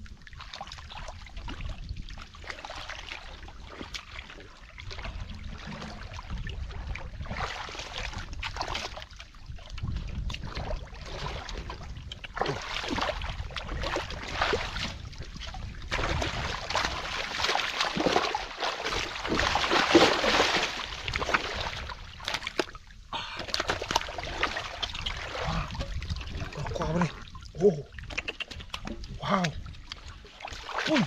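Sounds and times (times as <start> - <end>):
muddy water splashing: 0.0 - 31.0.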